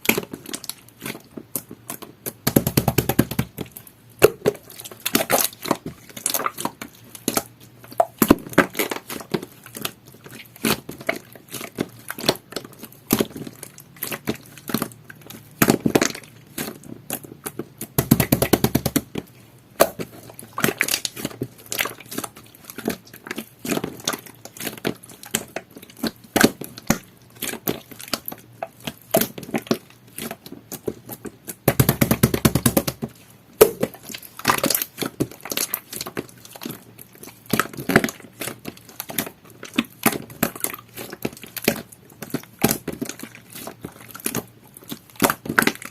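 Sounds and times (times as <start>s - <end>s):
slime squished by hand: 0.0s - 45.9s.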